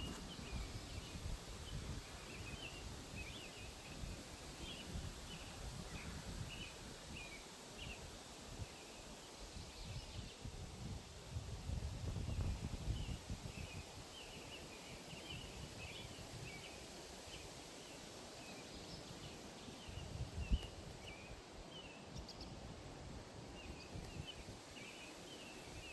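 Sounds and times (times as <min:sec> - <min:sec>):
low background hiss: 0:00.0 - 0:25.9.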